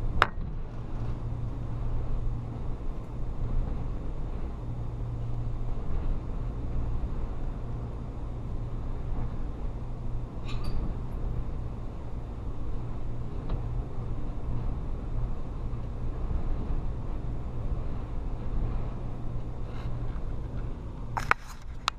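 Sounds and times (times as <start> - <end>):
blizzard wind buffeting microphone: 0.0 - 21.9.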